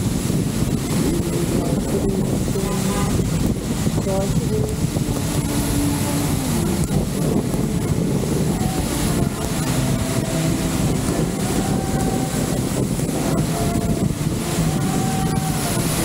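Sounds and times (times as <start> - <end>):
traffic engines rumbling: 0.0 - 16.0
wind buffeting microphone: 0.0 - 16.0.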